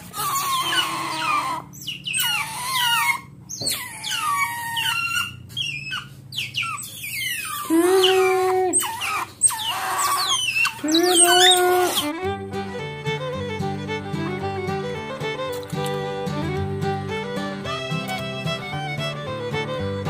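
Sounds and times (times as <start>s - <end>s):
otters squealing and whining: 0.0s - 20.0s.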